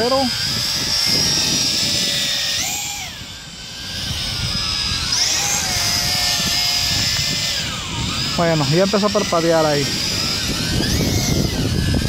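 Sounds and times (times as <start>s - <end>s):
quadcopter propellers whining: 0.0s - 12.0s.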